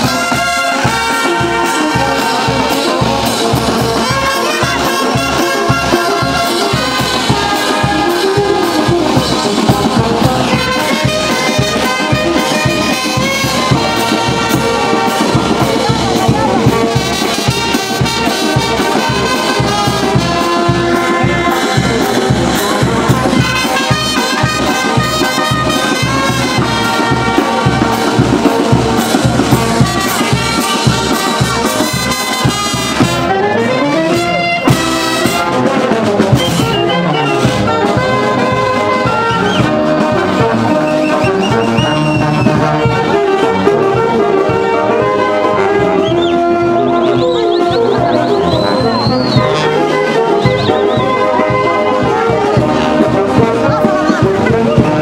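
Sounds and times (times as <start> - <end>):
drum beat: 0.0 - 33.3, 44.0 - 55.0
brass band playing dance tune: 0.0 - 55.0.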